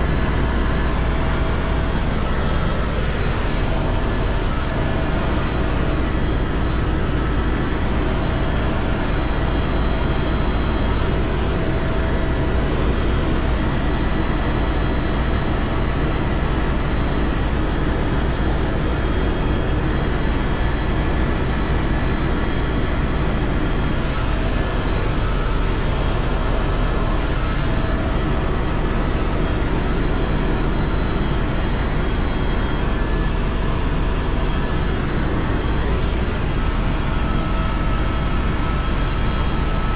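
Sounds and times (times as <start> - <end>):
faint steady whine: 0.0 - 39.9
helicopter rotor and engine drone: 0.0 - 39.9.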